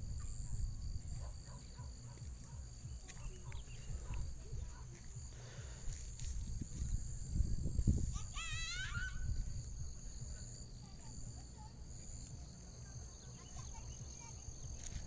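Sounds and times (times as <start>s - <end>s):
choppy low rumble: 0.0s - 8.4s, 9.1s - 15.0s
high-pitched insect drone: 0.0s - 15.0s.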